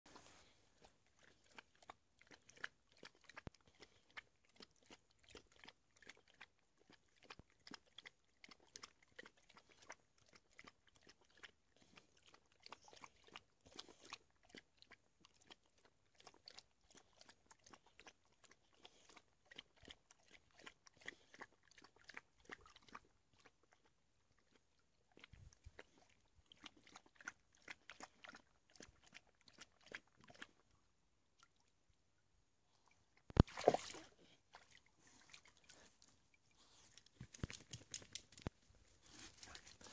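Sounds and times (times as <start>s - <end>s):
puppy lapping water: 0.1s - 30.7s, 32.8s - 39.9s.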